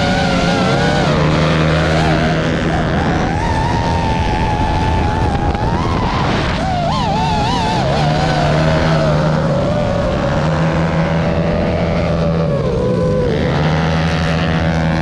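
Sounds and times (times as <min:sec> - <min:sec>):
small motors whining: 0:00.0 - 0:15.0.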